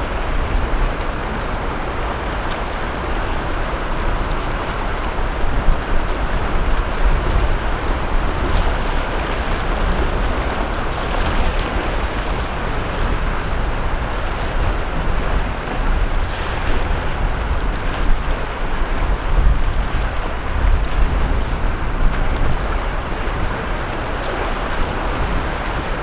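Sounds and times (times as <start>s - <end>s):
sea waves breaking on beach: 0.0s - 26.0s
wind rumble on microphone: 0.0s - 26.0s.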